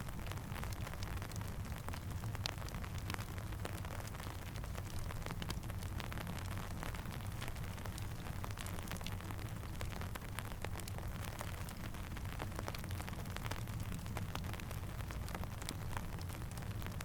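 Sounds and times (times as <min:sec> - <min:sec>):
campfire crackling: 0:00.0 - 0:17.0
steady rainfall: 0:00.0 - 0:17.0.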